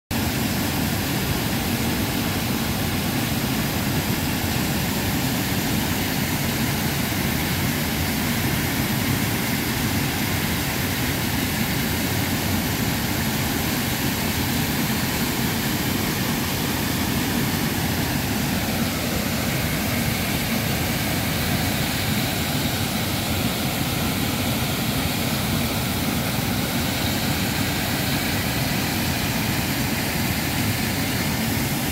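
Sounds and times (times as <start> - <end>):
small waterfall: 0.1 - 31.9
river water rushing: 0.2 - 31.9.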